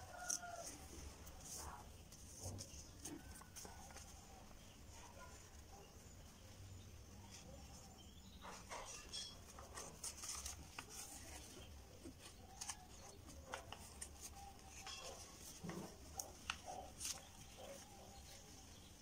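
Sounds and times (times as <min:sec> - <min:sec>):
paper rustling and folding: 0:00.0 - 0:05.7, 0:08.4 - 0:19.0.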